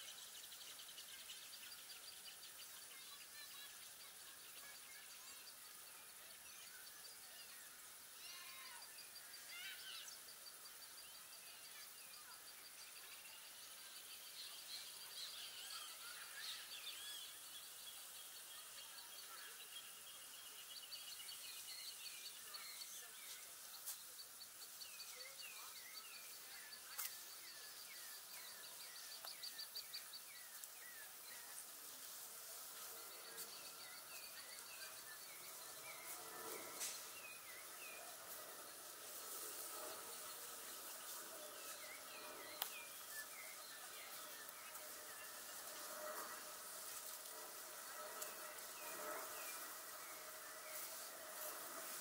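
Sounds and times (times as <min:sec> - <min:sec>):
birds singing: 0:00.0 - 0:52.0
faint background hiss: 0:00.0 - 0:52.0.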